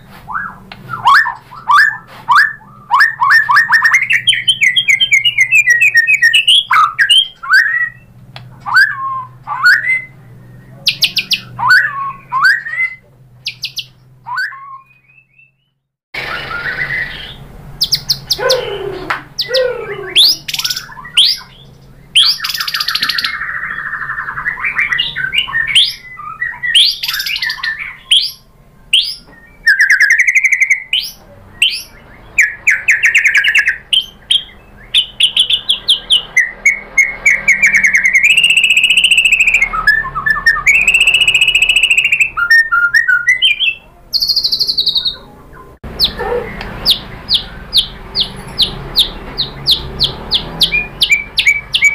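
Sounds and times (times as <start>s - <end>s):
songbird singing varied phrases: 0.3s - 15.7s, 16.5s - 51.9s.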